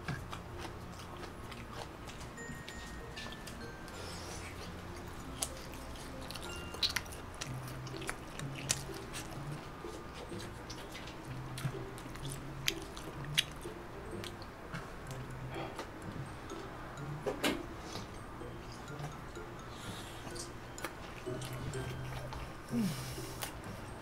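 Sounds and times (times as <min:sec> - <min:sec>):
chewing with wet mouth smacks: 0:00.0 - 0:16.6, 0:19.8 - 0:23.6.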